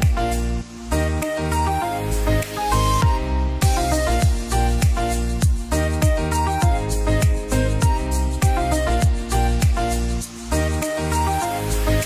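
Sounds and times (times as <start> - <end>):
electronic music with synth melody: 0.0 - 12.0.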